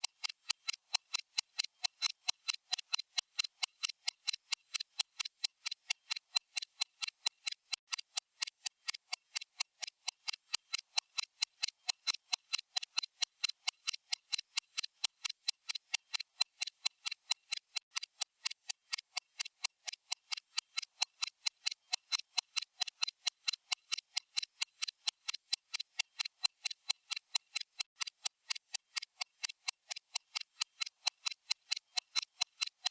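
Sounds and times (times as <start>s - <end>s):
stopwatch ticking: 0.0s - 32.9s.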